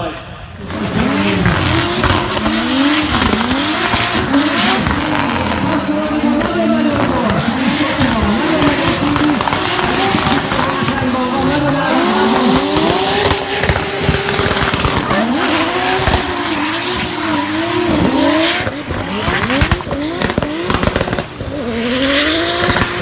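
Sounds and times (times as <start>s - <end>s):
car engine revving hard: 0.5s - 23.0s.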